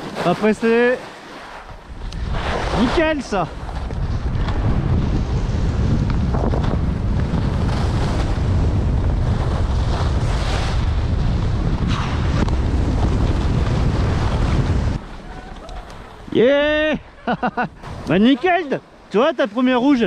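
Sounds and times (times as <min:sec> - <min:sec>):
skis sliding on snow: 0:00.0 - 0:16.5
wind buffeting microphone: 0:01.6 - 0:18.2.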